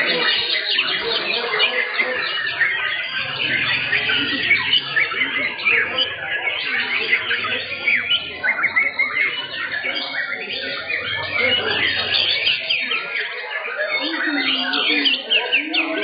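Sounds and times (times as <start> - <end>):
many birds singing: 0.0 - 16.0.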